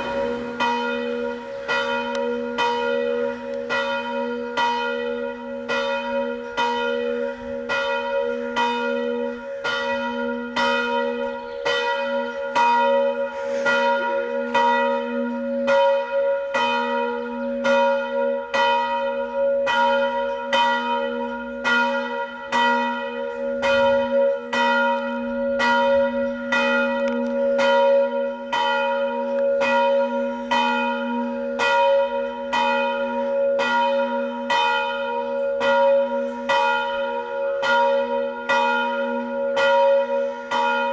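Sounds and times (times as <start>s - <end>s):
church bell tolling: 0.0s - 40.9s.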